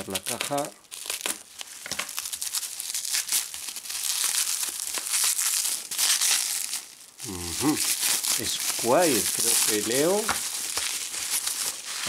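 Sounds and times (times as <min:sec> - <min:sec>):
bubble wrap crinkling and crackling: 0:00.0 - 0:12.0.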